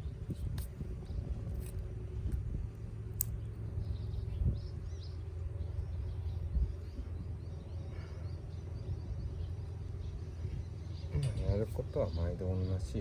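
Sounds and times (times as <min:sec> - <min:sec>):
wind rumbling on microphone: 0:00.0 - 0:12.1.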